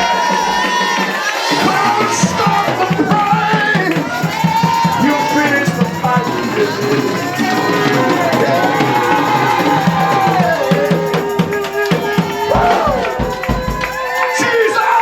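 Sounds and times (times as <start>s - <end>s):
church praise music: 0.0s - 15.0s
congregation singing: 0.0s - 15.0s
drums and percussion: 0.0s - 15.0s.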